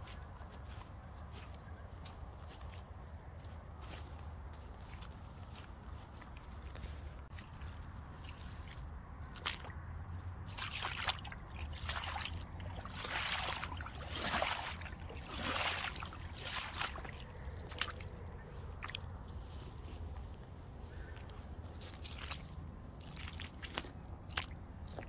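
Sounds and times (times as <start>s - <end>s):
boots squelching through mud: 0.0s - 25.0s.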